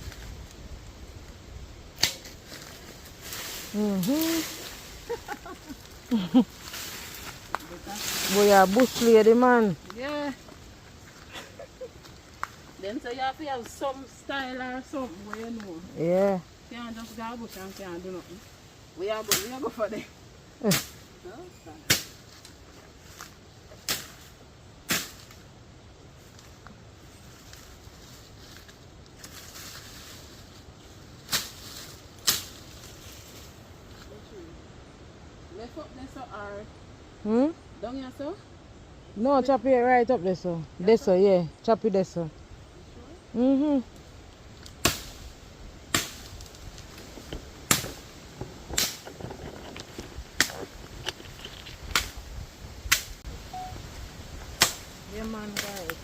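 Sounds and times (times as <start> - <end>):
brush rustling: 0.0 - 36.9, 42.0 - 56.0.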